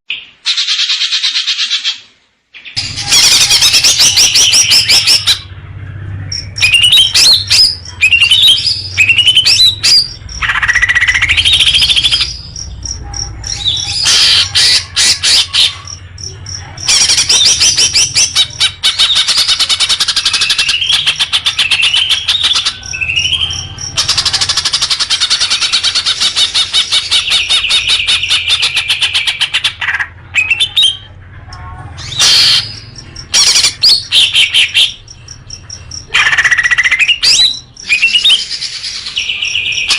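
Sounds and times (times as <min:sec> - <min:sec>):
songbird trilling and whistling: 0:02.6 - 0:05.5, 0:06.2 - 0:31.1, 0:32.0 - 0:39.9.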